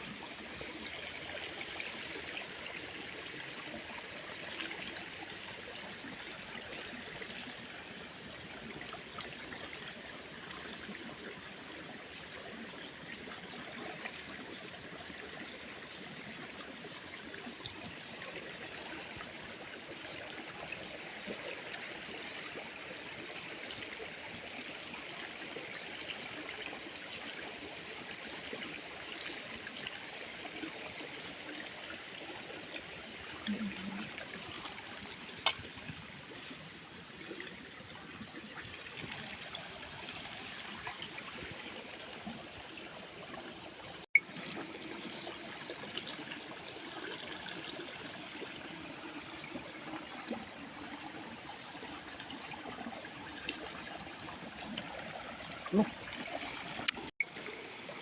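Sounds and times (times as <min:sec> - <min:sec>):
stream of water trickling: 0:00.0 - 0:58.0.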